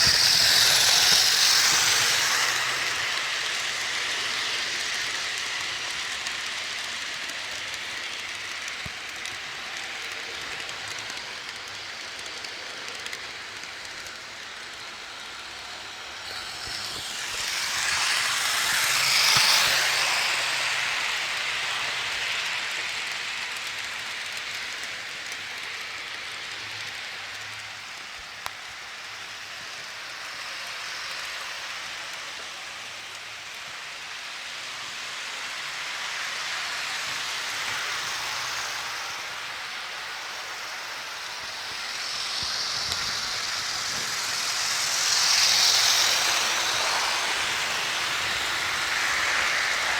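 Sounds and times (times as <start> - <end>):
model train rattling on track: 0.0 - 49.9.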